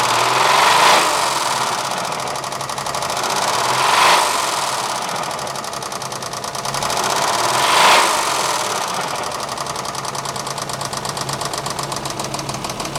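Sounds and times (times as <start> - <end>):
car engine knocking: 0.0 - 12.9.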